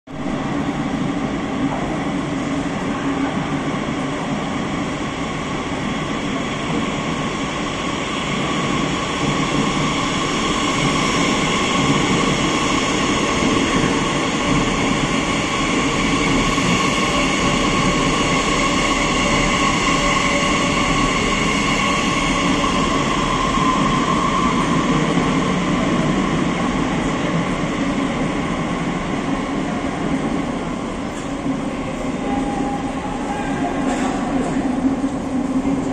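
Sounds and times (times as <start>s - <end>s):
train high whine: 0.2s - 35.9s
train wheels rumbling on rail: 0.2s - 35.9s.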